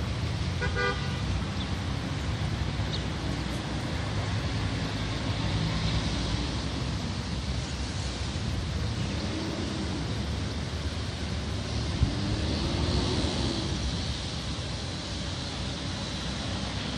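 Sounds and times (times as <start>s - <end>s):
road traffic passing: 0.0s - 16.9s
water rushing down a ditch: 0.0s - 16.9s.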